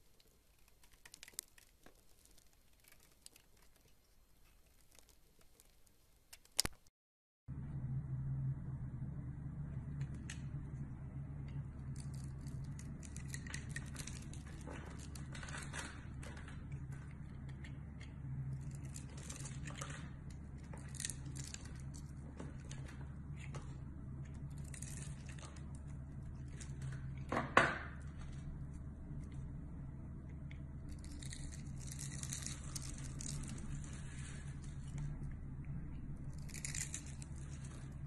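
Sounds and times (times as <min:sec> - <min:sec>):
low steady hum: 0:07.5 - 0:38.0.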